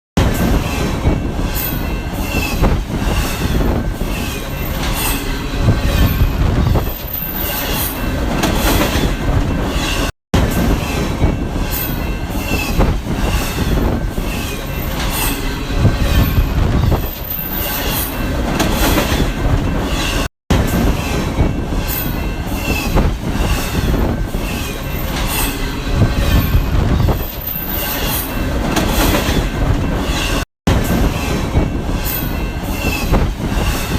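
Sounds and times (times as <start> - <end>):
train rumble: 0.2 - 33.9
wheels squealing on rails: 0.3 - 33.9.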